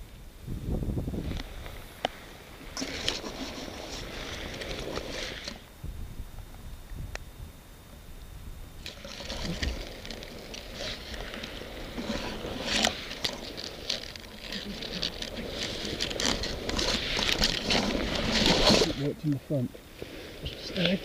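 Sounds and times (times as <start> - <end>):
grass rustling against microphone: 0.0 - 21.0.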